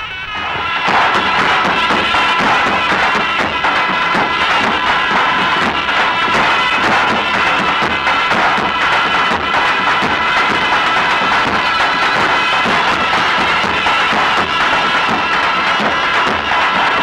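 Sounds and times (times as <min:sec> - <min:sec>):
bass drum beats: 0:00.0 - 0:17.0
reed pipe melody: 0:00.0 - 0:17.0.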